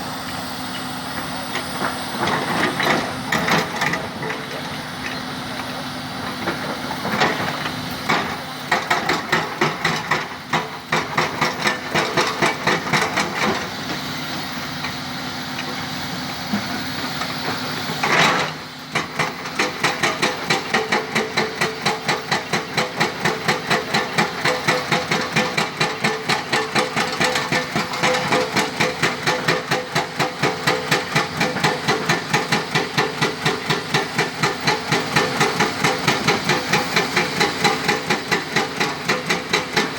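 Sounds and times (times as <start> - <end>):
excavator engine running: 0.0 - 39.9
excavator hammer pounding rock: 1.7 - 14.1, 16.4 - 39.9.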